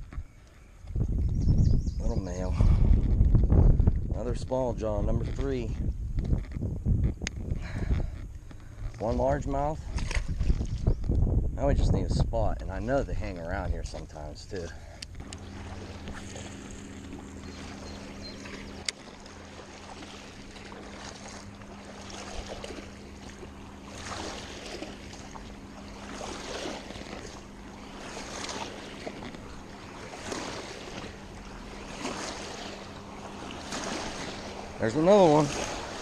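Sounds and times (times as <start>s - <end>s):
steady low hum: 0.0s - 36.0s
water lapping at river bank: 0.0s - 36.0s.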